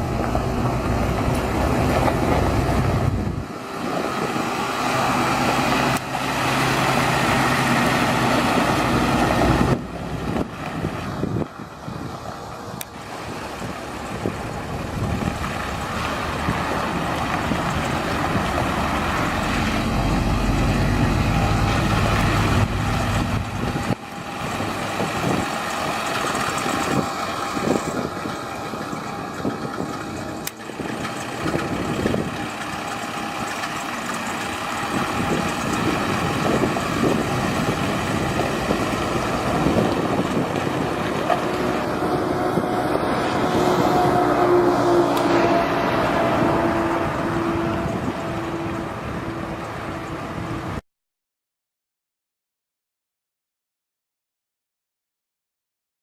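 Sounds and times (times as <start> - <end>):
truck diesel engine running: 0.0 - 50.8.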